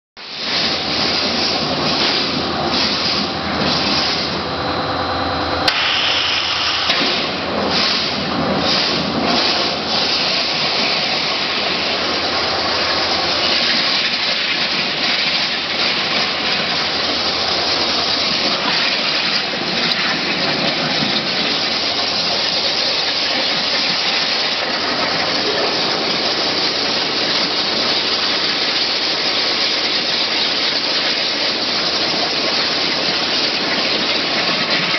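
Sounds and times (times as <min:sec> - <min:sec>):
waterjet cutter hissing: 0:00.2 - 0:34.9.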